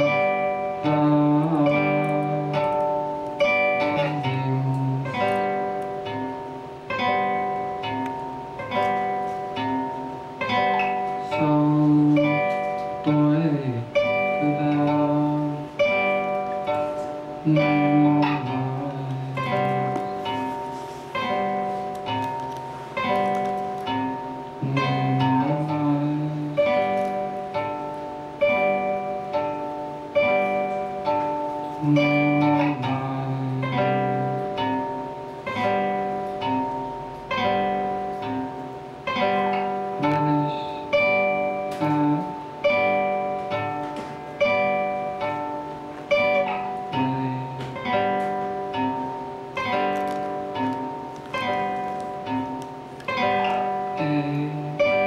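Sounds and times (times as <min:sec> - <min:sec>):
solo guitar plucked notes: 0:00.0 - 0:55.0.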